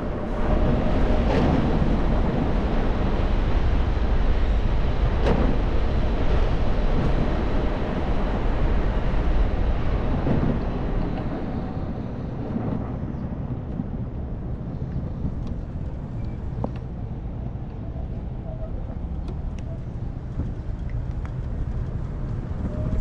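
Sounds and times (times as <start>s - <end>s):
road and traffic rumble: 0.0s - 23.0s
wind rushing over microphone: 0.0s - 23.0s.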